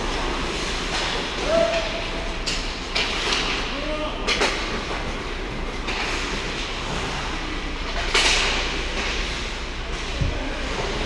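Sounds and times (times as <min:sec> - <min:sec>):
indoor rink hum: 0:00.0 - 0:11.0
skates scraping on ice: 0:00.0 - 0:11.0.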